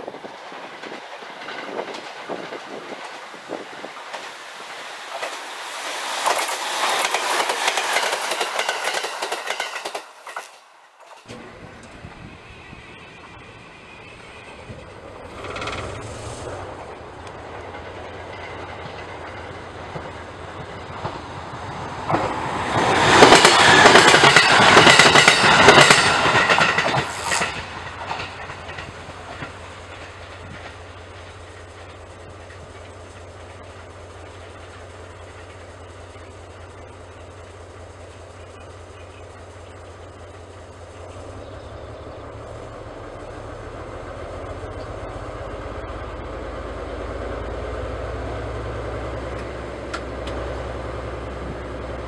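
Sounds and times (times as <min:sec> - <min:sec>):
train wheels clattering over rail joints: 0:00.0 - 0:12.4, 0:13.2 - 0:46.4.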